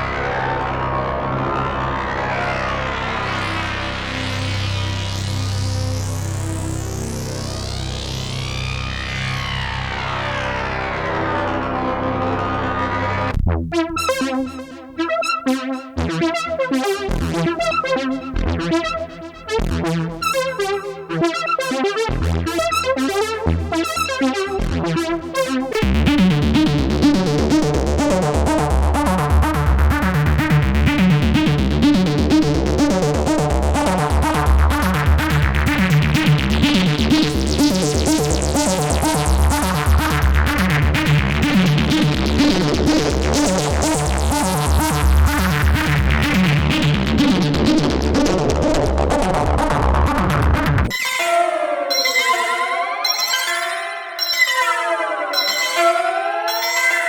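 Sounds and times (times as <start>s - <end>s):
analog synthesizer: 0.0s - 57.0s.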